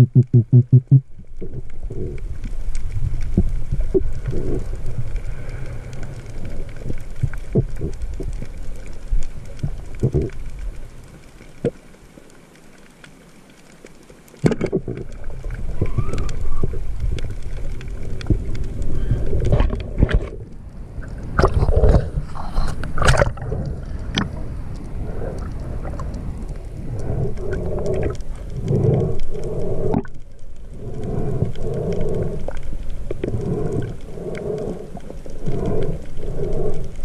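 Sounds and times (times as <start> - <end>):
muffled underwater water rumble: 0.0 - 37.0
sharp underwater clicks: 0.0 - 37.0.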